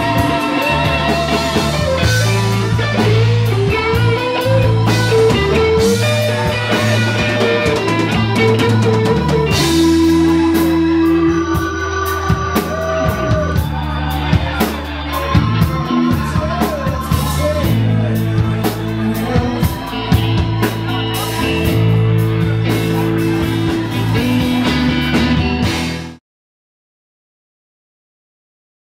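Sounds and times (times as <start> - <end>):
electric guitar sustained notes: 0.0 - 26.2
rock band playing: 0.0 - 26.2.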